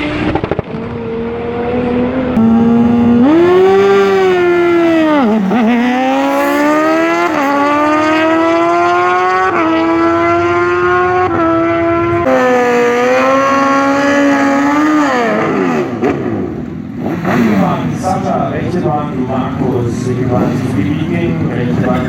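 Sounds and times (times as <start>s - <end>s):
racing engine accelerating: 0.0s - 18.3s.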